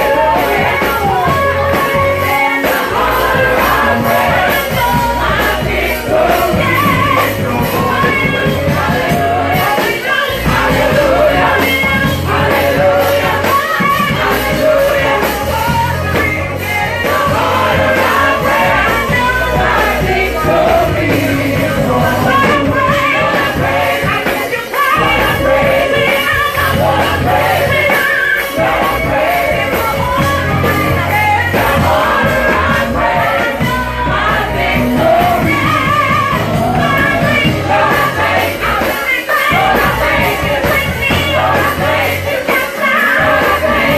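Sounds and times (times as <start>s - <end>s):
band with bass and drums: 0.0s - 43.9s
group singing: 0.0s - 43.9s.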